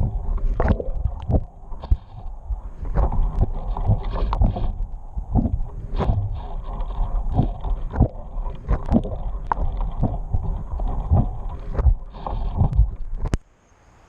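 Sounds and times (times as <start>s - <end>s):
water slapping boat hull: 0.0s - 13.4s
wind on microphone: 0.0s - 13.4s.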